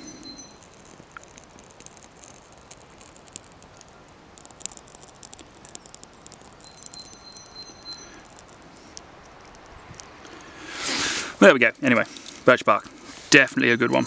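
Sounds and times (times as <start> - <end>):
burning bark crackling: 0.0 - 14.0.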